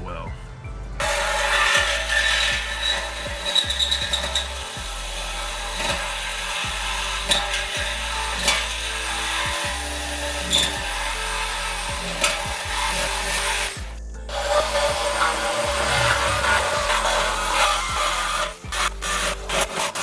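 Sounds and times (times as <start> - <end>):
background music bass line: 0.0 - 20.0
power tool cutting metal hiss: 1.0 - 13.8, 14.4 - 20.0.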